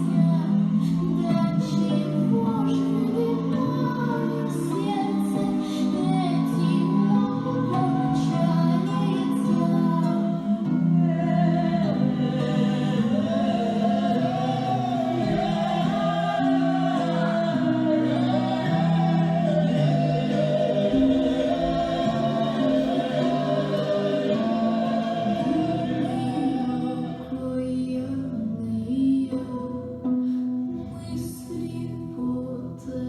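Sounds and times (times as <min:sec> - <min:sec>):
high voice singing: 0:00.0 - 0:29.8
low accompanying chords: 0:00.0 - 0:32.8.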